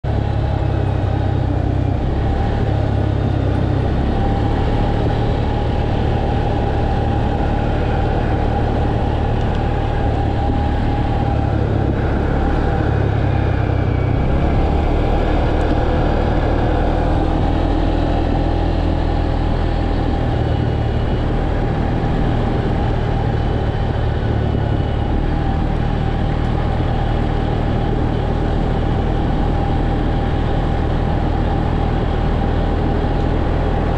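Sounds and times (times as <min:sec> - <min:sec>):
quad bike engine running: 0:00.0 - 0:33.9.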